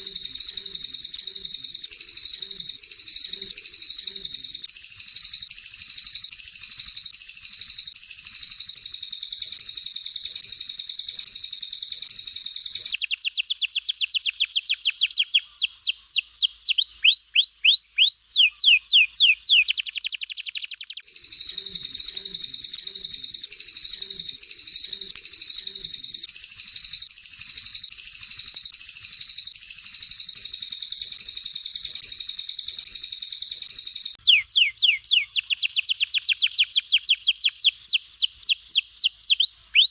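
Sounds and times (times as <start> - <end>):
high fast bird trill: 0.0 - 39.9.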